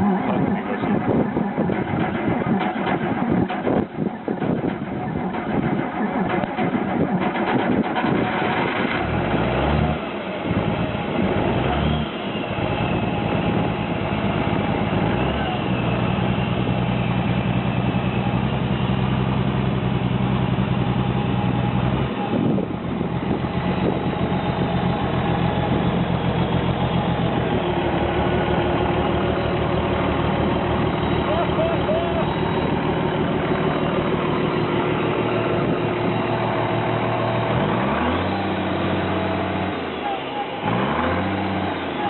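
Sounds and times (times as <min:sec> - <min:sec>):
diesel engine clattering: 0:00.0 - 0:42.0.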